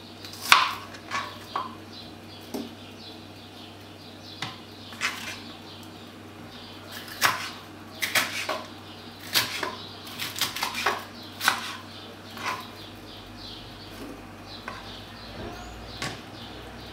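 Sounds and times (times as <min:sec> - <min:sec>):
faint low hum: 0:01.1 - 0:16.9.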